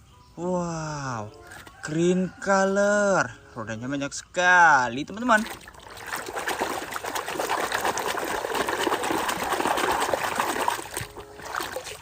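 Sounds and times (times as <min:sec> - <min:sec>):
water splashing and trickling: 0:01.1 - 0:03.2, 0:04.4 - 0:12.0.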